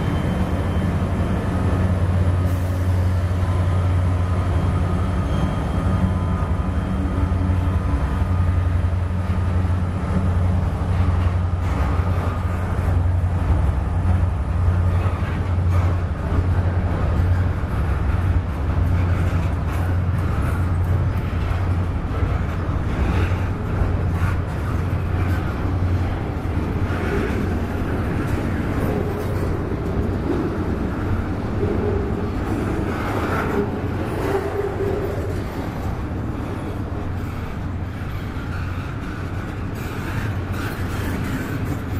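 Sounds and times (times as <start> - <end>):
rail cars rattling and knocking: 0.0 - 41.9
steel wheels rumbling on rail: 0.0 - 41.9.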